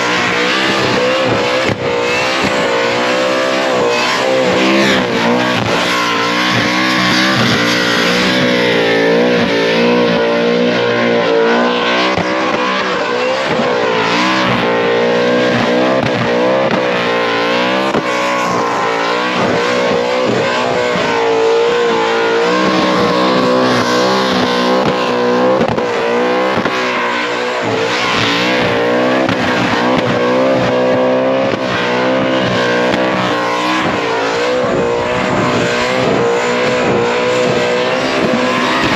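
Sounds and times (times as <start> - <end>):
car engine revving high: 0.0 - 38.9
tyres spinning and squealing: 0.0 - 38.9.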